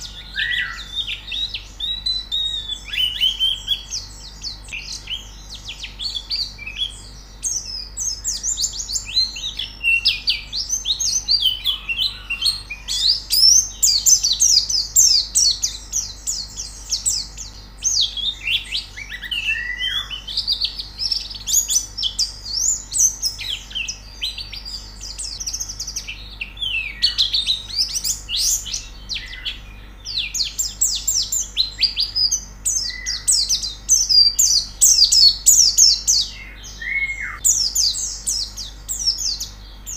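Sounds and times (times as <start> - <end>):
birds twittering: 0.0 - 39.9
faint low hum: 0.0 - 39.9.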